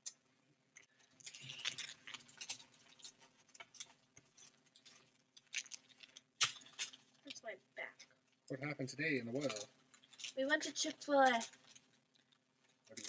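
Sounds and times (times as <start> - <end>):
crinkling rustles: 0.7 - 8.4, 9.3 - 13.0.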